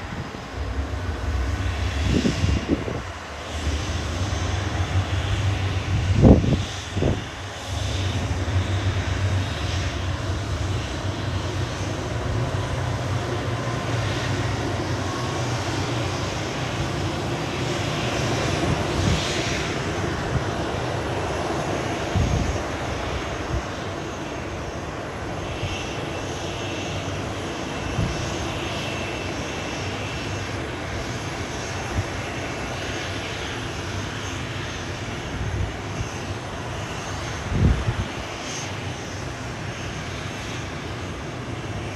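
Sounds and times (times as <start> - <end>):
jet engines rumbling: 0.0 - 41.9.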